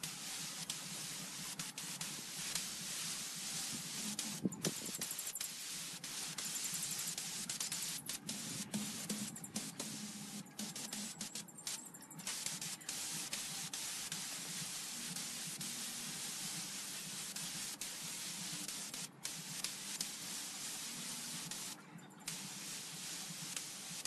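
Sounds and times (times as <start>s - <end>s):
compressed-air spray hissing: 0.0s - 24.0s.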